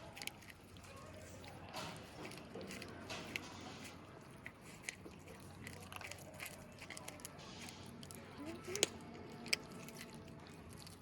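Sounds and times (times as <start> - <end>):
kittens chewing fish: 0.0 - 11.0
wet crunches and clicks: 0.0 - 11.0.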